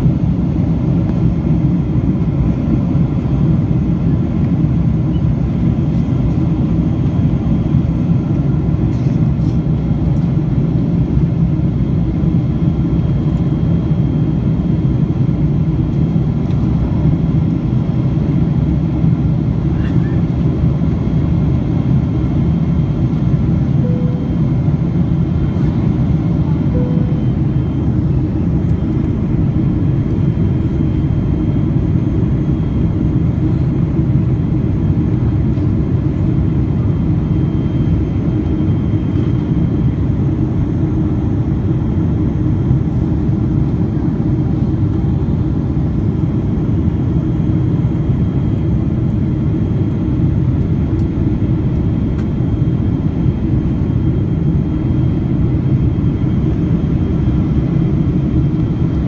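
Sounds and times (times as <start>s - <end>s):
airplane cabin engine noise: 0.0s - 59.0s
faint steady whines: 0.0s - 59.0s.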